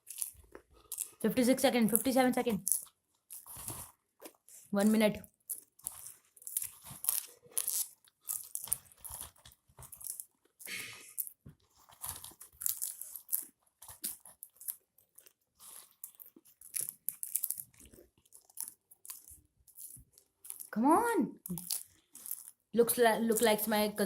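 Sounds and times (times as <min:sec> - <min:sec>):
popcorn being chewed: 0:00.0 - 0:24.0.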